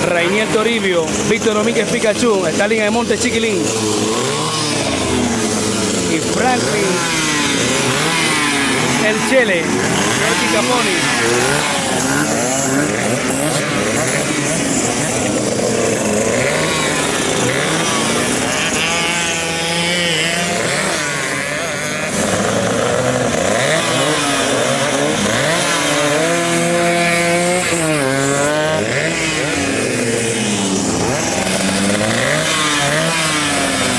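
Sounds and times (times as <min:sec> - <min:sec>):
racing engines revving: 0:00.0 - 0:33.9.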